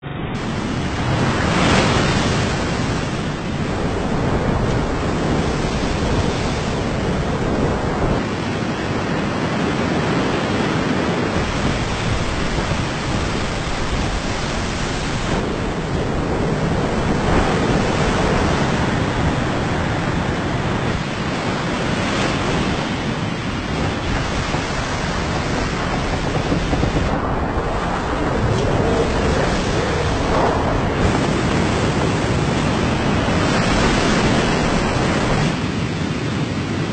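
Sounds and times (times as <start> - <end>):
rushing wind and water: 0.0 - 36.9.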